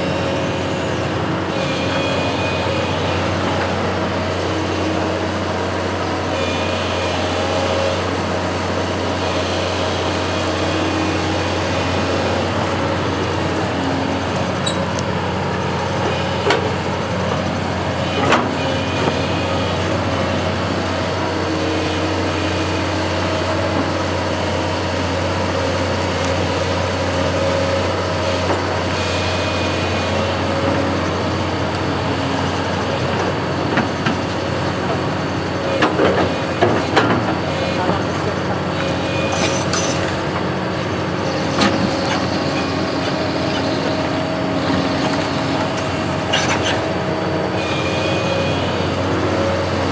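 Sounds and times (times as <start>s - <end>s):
construction machine engine running: 0.0s - 49.9s.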